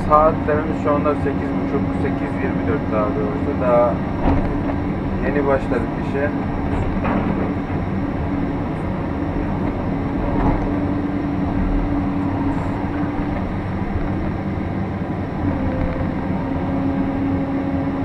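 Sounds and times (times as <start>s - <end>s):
excavator engine under load: 0.0s - 18.0s
steady droning tone: 0.0s - 18.0s.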